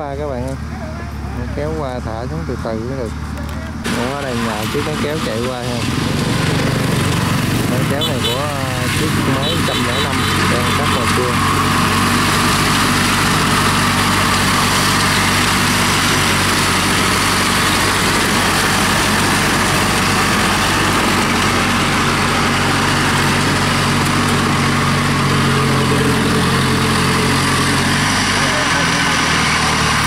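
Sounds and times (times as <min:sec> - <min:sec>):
tracked tractor engine running: 0:00.0 - 0:30.0.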